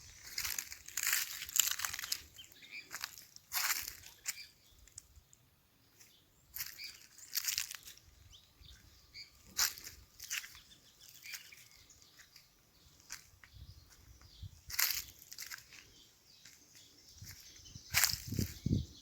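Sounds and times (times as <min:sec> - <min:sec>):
footsteps crunching on dry ground: 0:00.0 - 0:05.1, 0:05.9 - 0:19.0
faint bird chirps: 0:00.3 - 0:05.0, 0:05.9 - 0:19.0.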